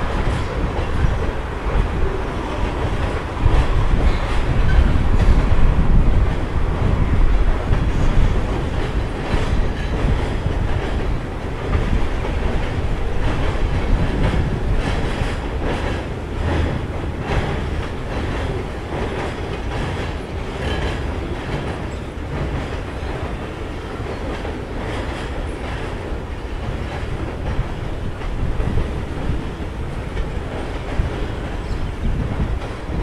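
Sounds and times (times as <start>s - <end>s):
train rumbling across bridge: 0.0s - 33.0s
wheels clacking over rail joints: 0.0s - 33.0s.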